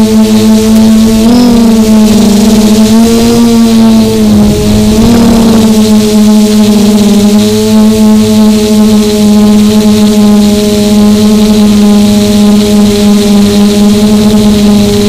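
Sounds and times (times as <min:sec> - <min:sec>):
drone motors buzzing: 0:00.0 - 0:15.0.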